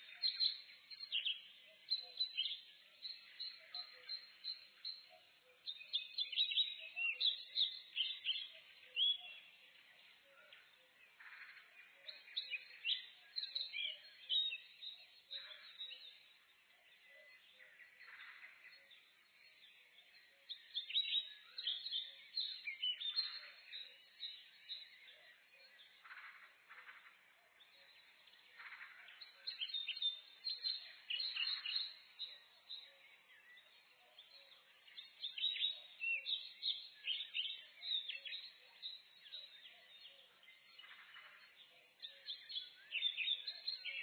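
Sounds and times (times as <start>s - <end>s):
songbirds chirping and singing: 0.0s - 44.0s.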